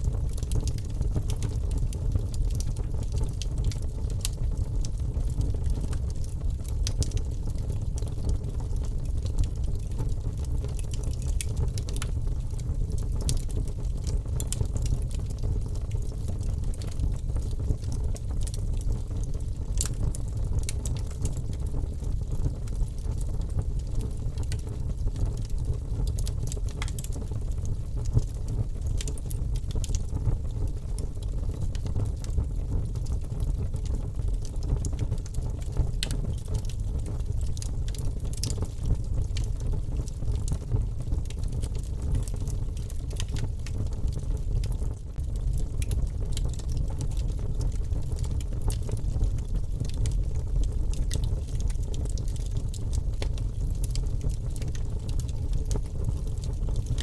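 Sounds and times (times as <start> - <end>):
fire popping and snapping: 0.0 - 57.0
wood fire crackling: 0.0 - 57.0.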